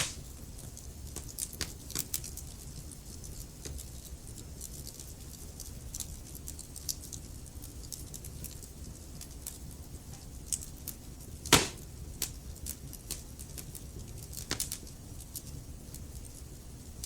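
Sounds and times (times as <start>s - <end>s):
fire crackling and snapping: 0.0s - 17.0s.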